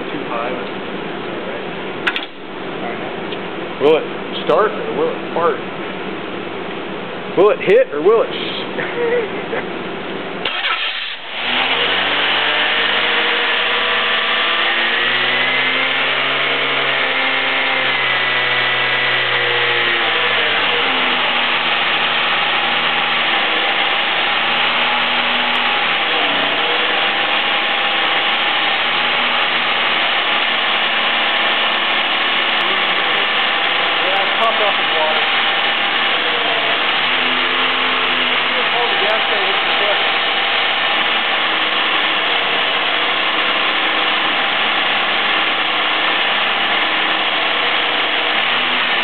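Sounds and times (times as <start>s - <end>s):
car engine starting and idling: 7.4s - 49.0s.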